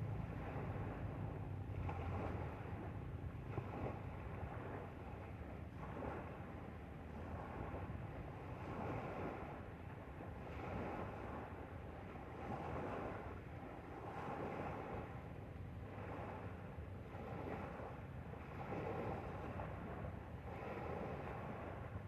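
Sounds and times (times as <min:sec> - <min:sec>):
water rushing past boat: 0:00.0 - 0:22.0
wind buffeting microphone: 0:00.0 - 0:22.0.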